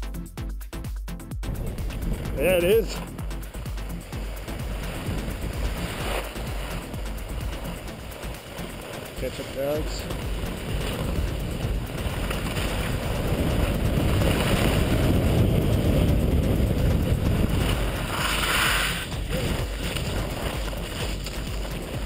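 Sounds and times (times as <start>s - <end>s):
skis hissing over snow: 1.5s - 22.0s
wind rushing over camera: 1.5s - 22.0s.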